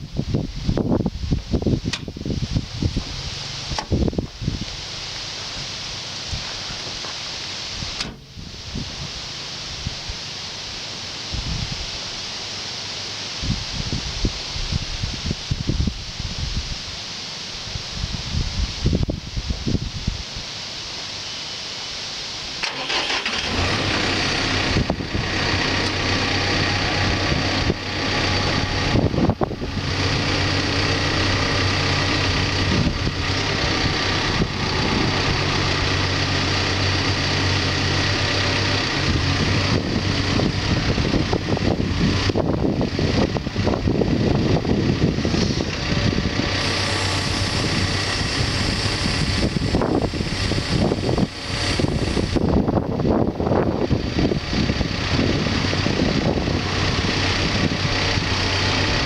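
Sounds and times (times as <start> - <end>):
diesel engine idling: 2.1 - 13.3, 22.5 - 59.0.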